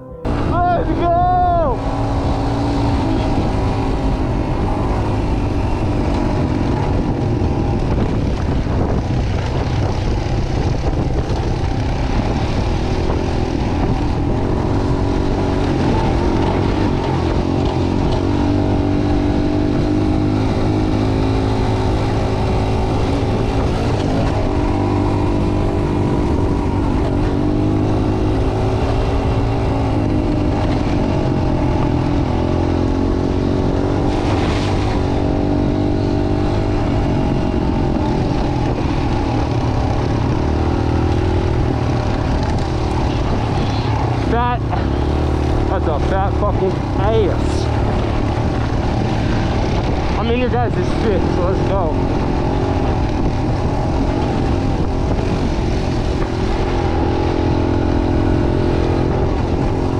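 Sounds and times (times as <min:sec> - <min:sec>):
dirt bike engine running: 0:00.0 - 0:59.9
heavy low rumble: 0:00.0 - 0:59.9.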